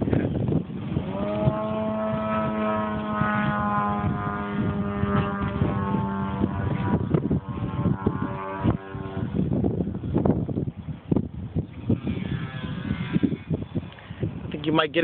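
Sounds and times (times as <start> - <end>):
electric motor and propeller whining: 0.0 - 15.0.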